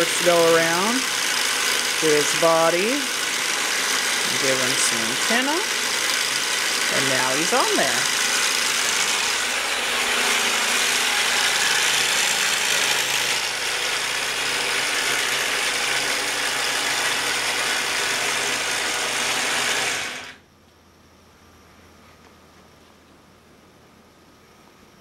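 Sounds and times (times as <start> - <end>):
quilting machine running: 0.0 - 20.4.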